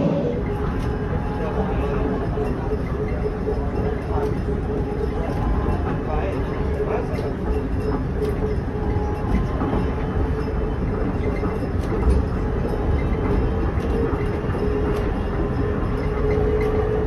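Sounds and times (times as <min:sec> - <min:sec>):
people mover train rumbling: 0:00.0 - 0:17.0
steady whine: 0:00.0 - 0:17.0.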